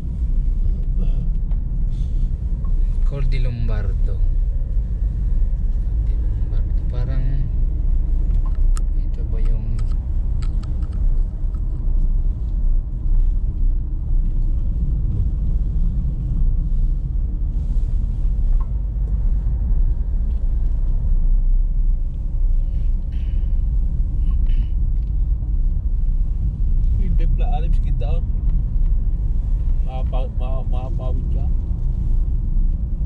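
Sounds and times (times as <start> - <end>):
car engine running: 0.0 - 33.0
low road rumble: 0.0 - 33.0.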